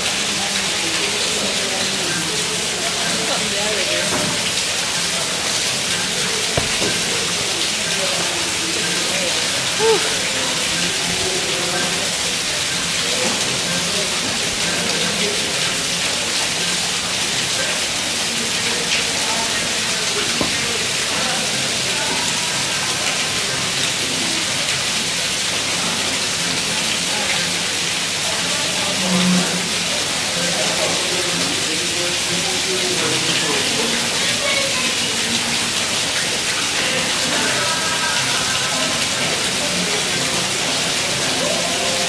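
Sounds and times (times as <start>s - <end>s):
faint indistinct voices: 0.0s - 42.0s.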